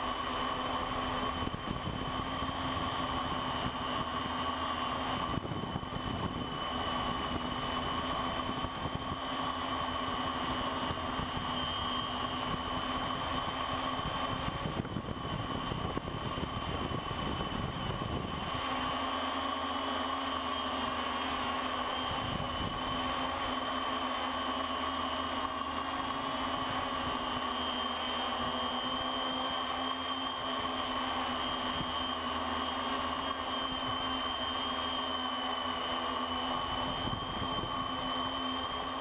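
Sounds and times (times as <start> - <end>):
drone propellers whining: 0.0 - 39.0.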